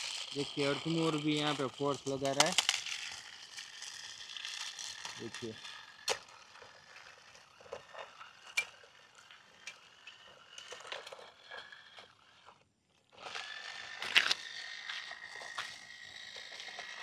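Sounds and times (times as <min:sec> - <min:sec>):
toy electric motors whirring: 0:00.0 - 0:17.0.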